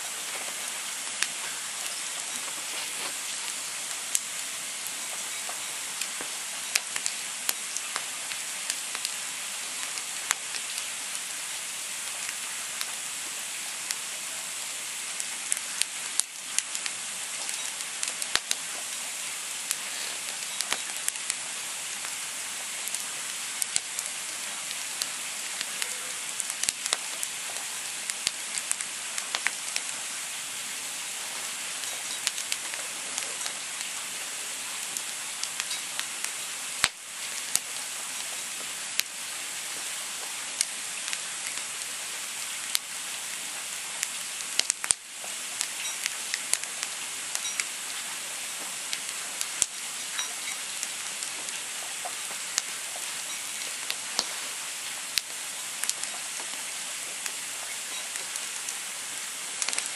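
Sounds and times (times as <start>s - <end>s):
campfire flames hissing: 0.0s - 59.9s
burning logs popping and snapping: 0.1s - 14.1s, 15.0s - 59.9s.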